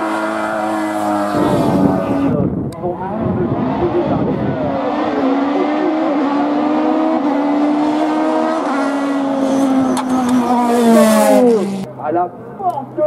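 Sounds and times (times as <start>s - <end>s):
race car engine at high revs: 0.0s - 11.9s.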